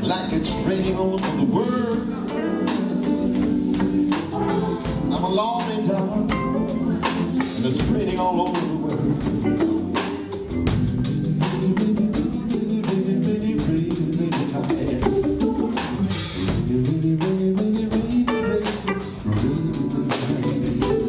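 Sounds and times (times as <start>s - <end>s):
drum kit beat: 0.0s - 21.0s
guitar: 0.0s - 21.0s
organ holding chords: 0.0s - 21.0s.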